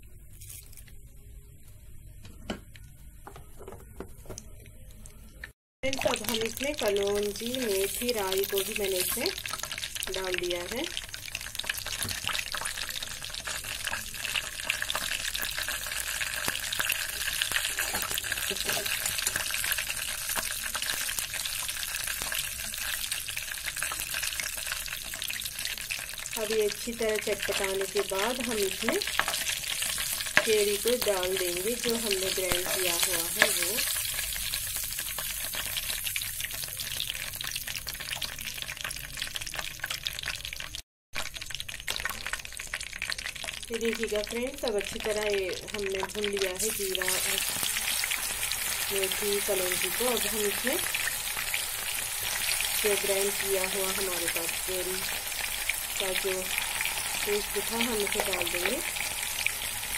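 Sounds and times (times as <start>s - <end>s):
seeds sizzling and popping in oil: 5.8s - 59.9s.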